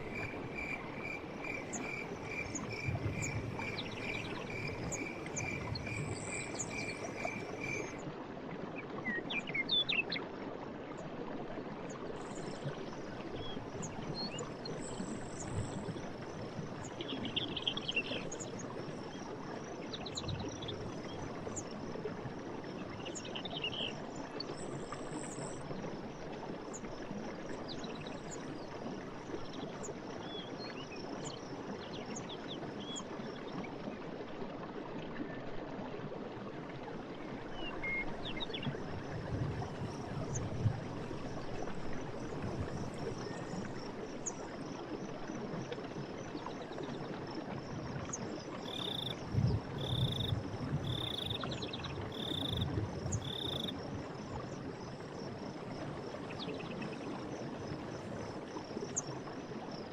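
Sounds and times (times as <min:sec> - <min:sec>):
forest stream running: 0:00.0 - 0:59.9.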